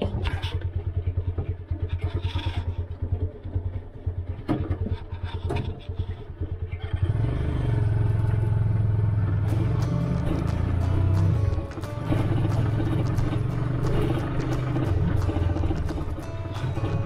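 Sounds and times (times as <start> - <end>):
auto rickshaw engine idling: 0.0 - 17.0.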